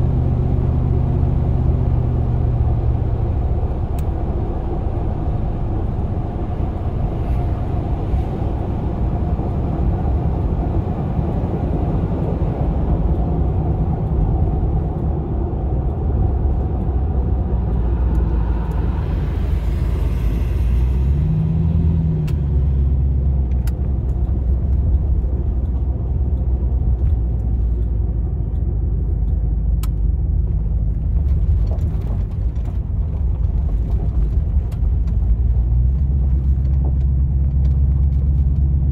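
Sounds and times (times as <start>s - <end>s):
van engine rumbling: 0.0s - 38.9s.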